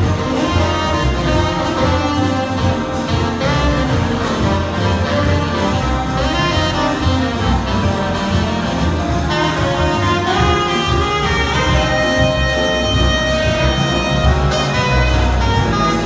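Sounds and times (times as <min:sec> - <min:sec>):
big band playing jazz: 0:00.0 - 0:16.0.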